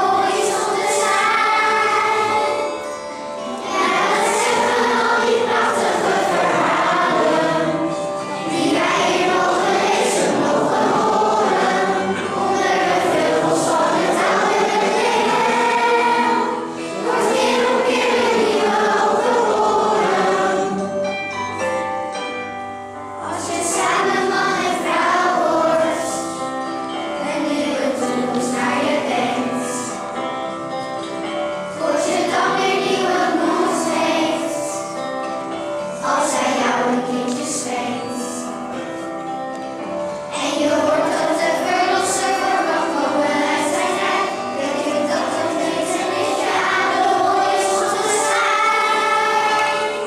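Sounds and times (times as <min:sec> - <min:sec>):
children's choir singing: 0:00.0 - 0:50.0.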